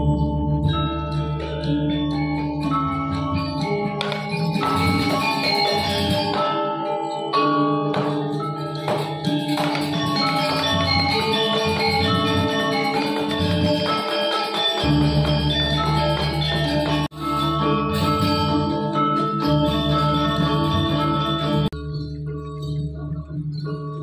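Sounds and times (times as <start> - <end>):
gamelan metal percussion: 0.0 - 24.0.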